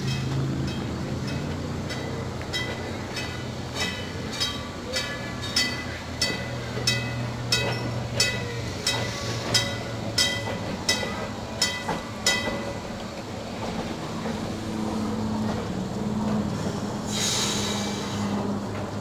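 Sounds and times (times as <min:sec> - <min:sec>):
trolley wheels clicking over rail joints: 0:00.0 - 0:19.0.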